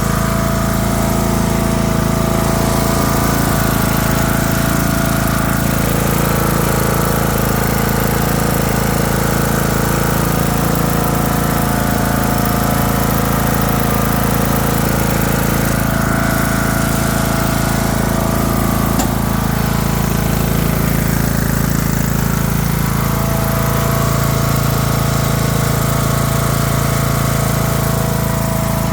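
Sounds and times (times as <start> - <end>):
lawn tractor engine running: 0.0 - 28.9.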